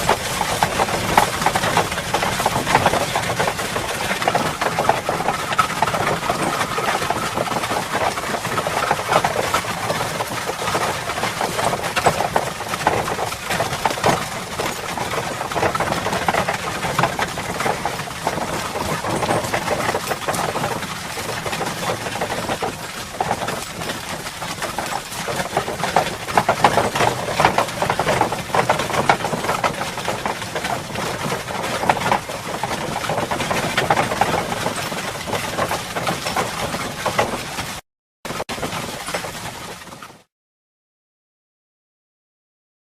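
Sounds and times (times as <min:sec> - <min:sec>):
horse-drawn cart clattering: 0:00.0 - 0:40.3.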